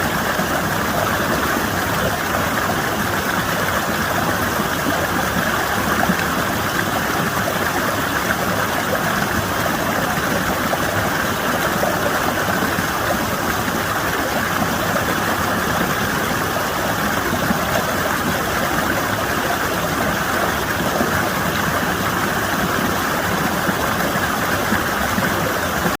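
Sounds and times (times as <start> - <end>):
water rushing down rock channel: 0.0 - 26.0.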